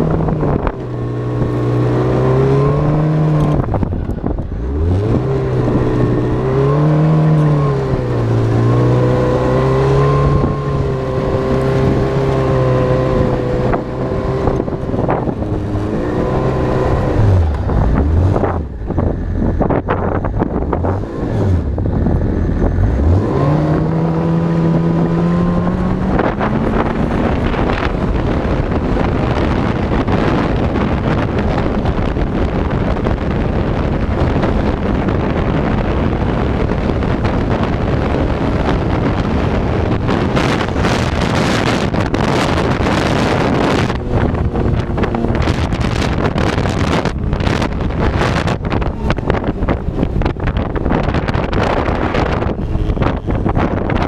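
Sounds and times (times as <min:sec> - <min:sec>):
snowmobile engine running: 0:00.0 - 0:54.0
wind noise on microphone: 0:00.0 - 0:54.0.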